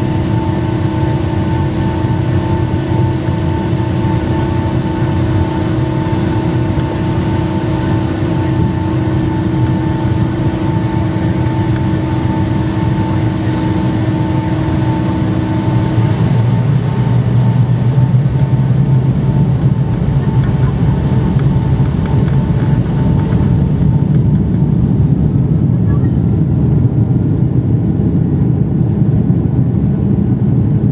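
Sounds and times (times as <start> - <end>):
jet engines idling hum: 0.0 - 30.9
low rumble: 0.0 - 30.9.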